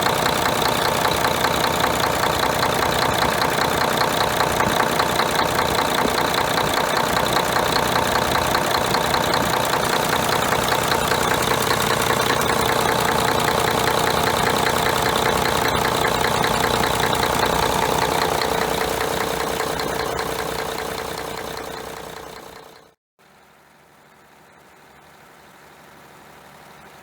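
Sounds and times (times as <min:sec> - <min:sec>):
diesel engine idling with knock: 0:00.0 - 0:23.0.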